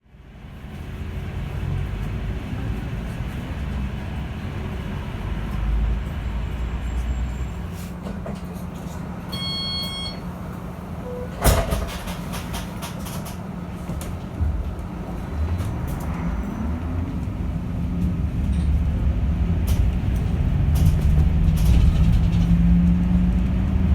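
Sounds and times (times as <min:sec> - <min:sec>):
electric bus rumble: 0:00.1 - 0:23.9.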